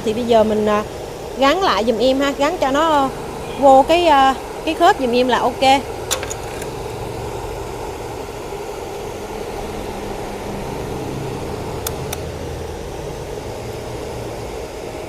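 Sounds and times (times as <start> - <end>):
welder cooling fan whirring: 0.0 - 15.0.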